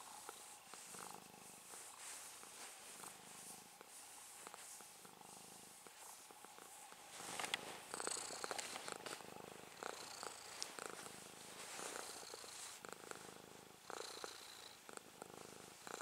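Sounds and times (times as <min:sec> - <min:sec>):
fingers rustling in fur: 0:00.0 - 0:13.3
cat purring: 0:00.0 - 0:16.0.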